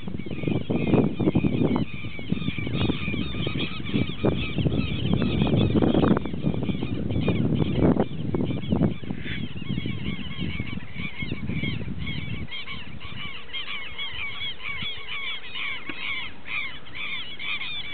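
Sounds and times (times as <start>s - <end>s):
birds calling in chorus: 0.0s - 17.9s.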